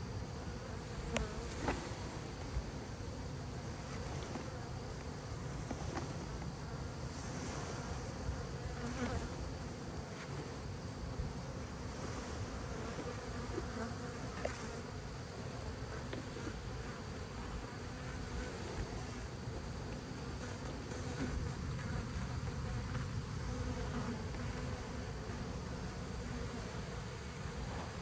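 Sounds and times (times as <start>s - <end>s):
bee swarm buzzing: 0.0s - 28.0s.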